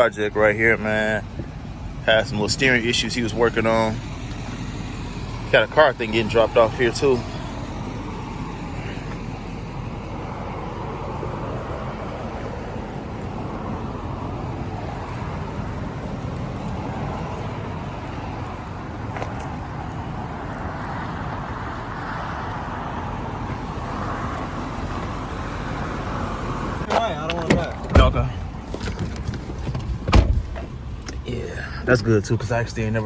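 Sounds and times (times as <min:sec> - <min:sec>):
motor vehicle rumble: 0:00.0 - 0:33.0.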